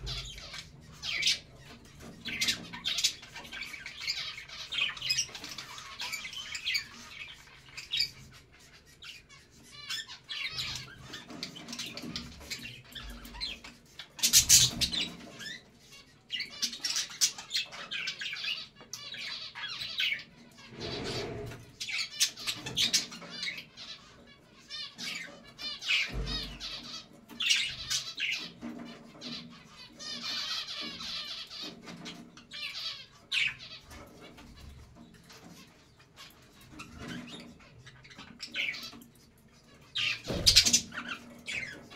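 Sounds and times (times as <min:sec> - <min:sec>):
budgerigars chattering: 0:00.0 - 0:39.1.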